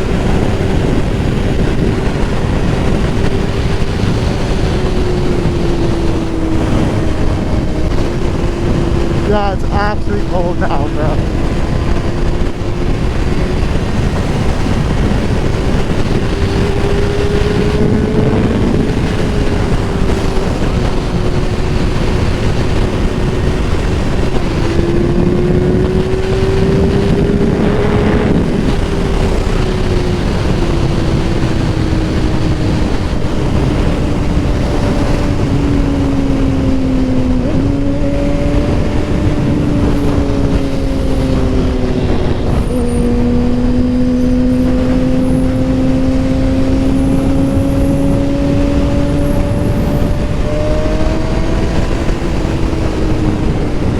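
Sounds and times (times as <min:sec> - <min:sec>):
motorcycle engine cruising: 0:00.0 - 0:53.9
wind noise on microphone: 0:00.0 - 0:53.9.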